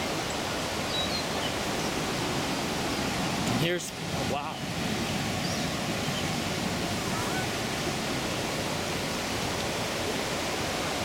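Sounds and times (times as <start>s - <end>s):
white-water rapids rushing: 0.0s - 11.0s.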